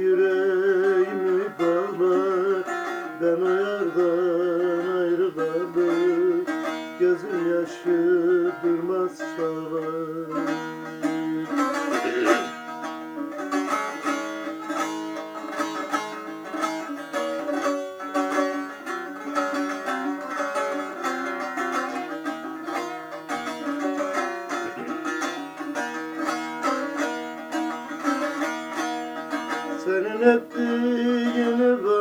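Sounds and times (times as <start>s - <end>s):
plucked string instrument melody: 0.0s - 32.0s.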